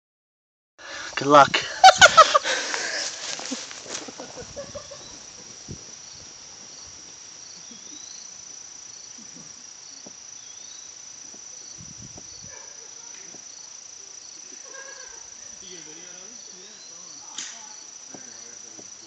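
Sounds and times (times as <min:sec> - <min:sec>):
insects droning: 0:00.8 - 0:19.0
soft insect chirp: 0:00.8 - 0:19.0.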